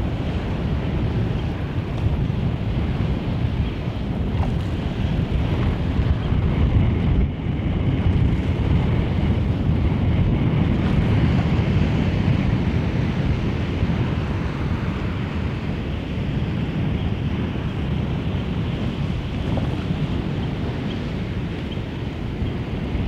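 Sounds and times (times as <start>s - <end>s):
choppy water washing: 0.0s - 23.0s
wind buffeting microphone: 0.0s - 23.0s.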